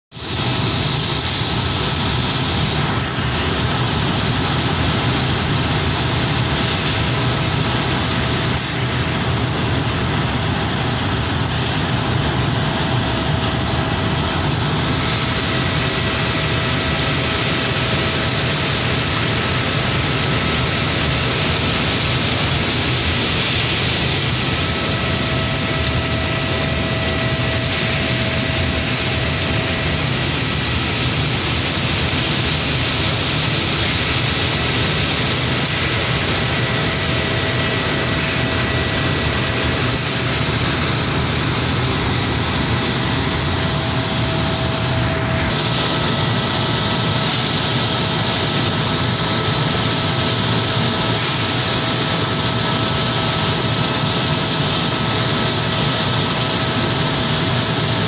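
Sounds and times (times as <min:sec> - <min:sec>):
industrial machinery roar: 0:00.1 - 0:58.0
faint steady whine: 0:00.2 - 0:58.0.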